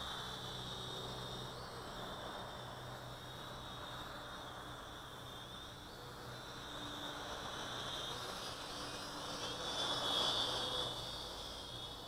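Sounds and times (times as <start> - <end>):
toy drone propellers whining: 0.0 - 12.0.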